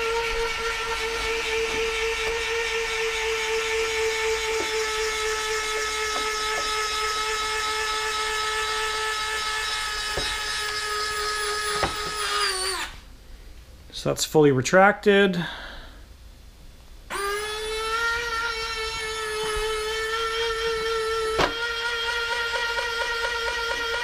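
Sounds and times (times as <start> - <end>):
electric retract motor whining: 0.0 - 13.0, 17.1 - 24.0.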